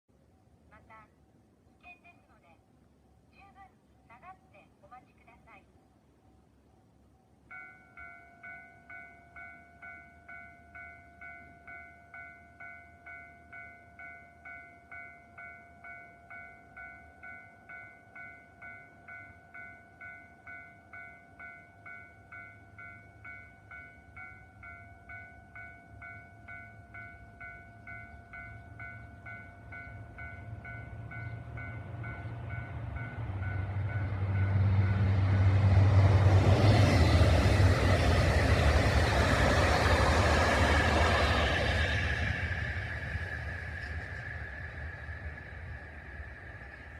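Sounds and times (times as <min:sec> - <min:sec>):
diesel train passing: 0:06.4 - 0:46.9
railway warning bell ringing: 0:07.2 - 0:46.9.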